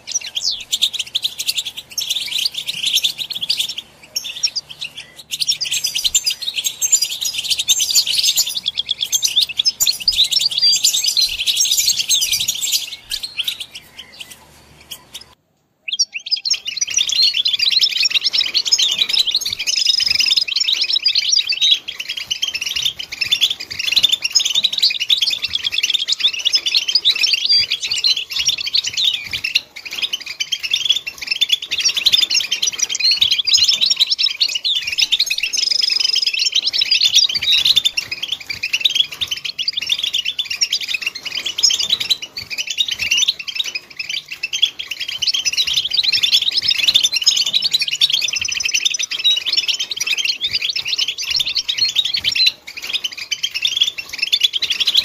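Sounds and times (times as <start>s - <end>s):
finch song twitters and trills: 0.0s - 55.0s.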